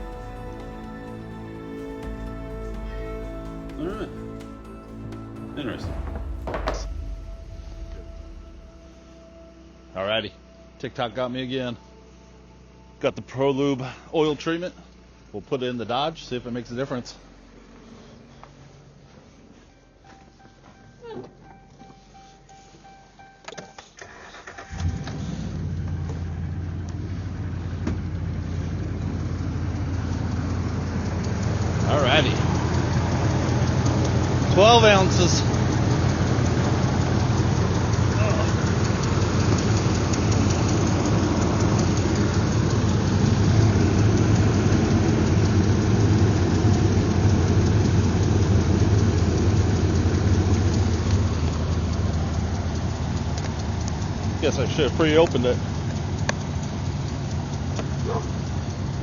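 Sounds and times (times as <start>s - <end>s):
truck engine starting and idling: 0.0s - 59.0s.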